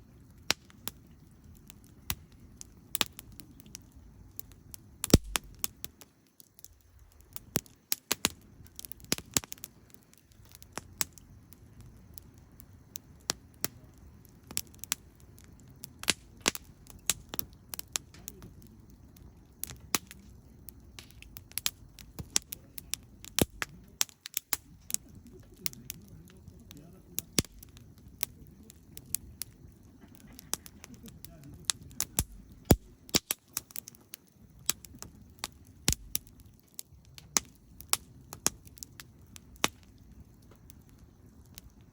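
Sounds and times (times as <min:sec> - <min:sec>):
campfire crackling: 0:00.0 - 0:41.9.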